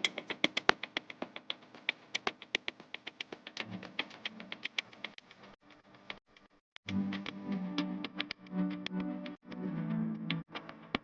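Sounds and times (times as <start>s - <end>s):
rapid sharp clicks: 0.0s - 11.0s.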